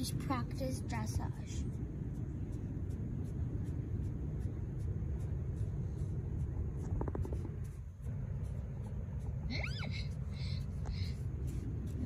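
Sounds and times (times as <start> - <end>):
wind and sea rumble: 0.0 - 12.0.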